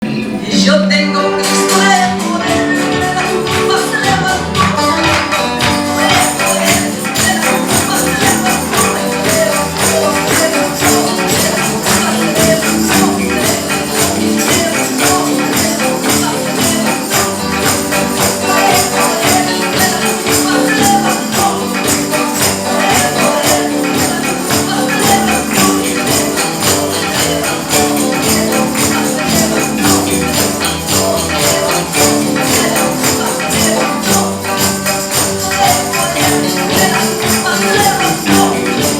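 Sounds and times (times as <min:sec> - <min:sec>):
lively praise music: 0:00.0 - 0:38.9
tambourine shaking: 0:01.5 - 0:38.9.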